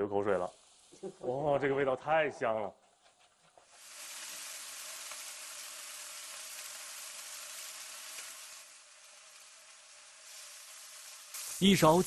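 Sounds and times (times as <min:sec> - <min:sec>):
hot oil sizzling: 0:00.0 - 0:01.9, 0:03.5 - 0:12.0.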